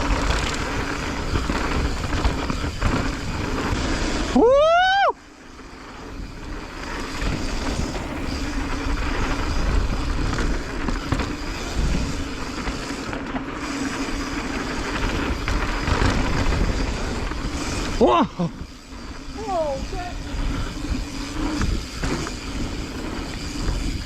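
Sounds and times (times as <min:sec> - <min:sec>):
bike tyres rolling over dirt: 0:00.0 - 0:24.0
wind rushing over microphone: 0:00.0 - 0:24.0.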